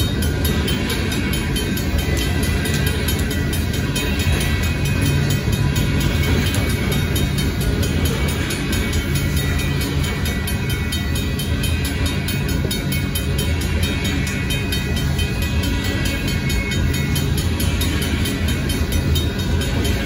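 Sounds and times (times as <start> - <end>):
steel wheels rumbling on rails: 0.0 - 20.0.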